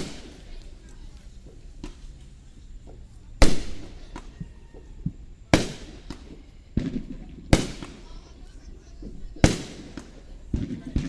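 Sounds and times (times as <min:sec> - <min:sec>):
faint fireworks pops: 0:00.0 - 0:11.0
fireworks booming with rolling echo: 0:00.0 - 0:11.0.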